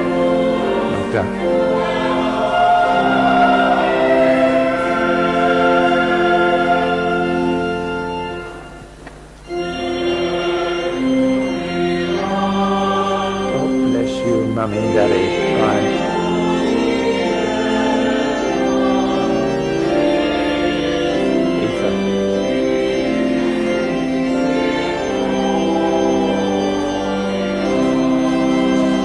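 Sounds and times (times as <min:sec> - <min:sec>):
church organ playing a hymn: 0:00.0 - 0:29.0.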